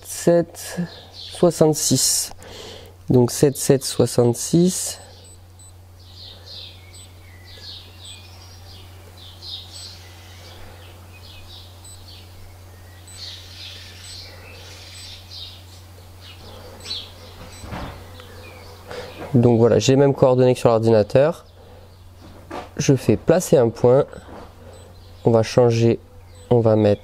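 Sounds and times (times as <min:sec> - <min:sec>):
low electrical hum: 0:00.0 - 0:27.0
birds chirping: 0:00.7 - 0:03.0, 0:03.6 - 0:27.0.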